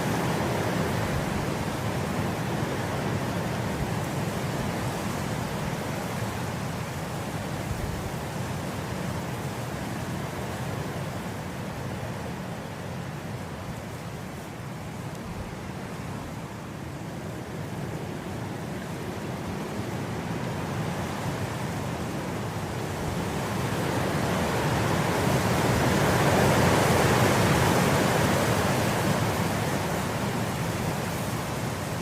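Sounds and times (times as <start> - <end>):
wind blowing through grass: 0.0 - 32.0.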